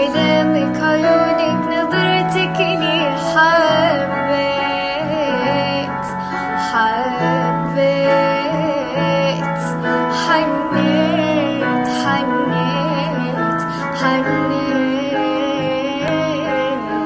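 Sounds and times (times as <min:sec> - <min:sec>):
person singing slow song: 0:00.0 - 0:17.0.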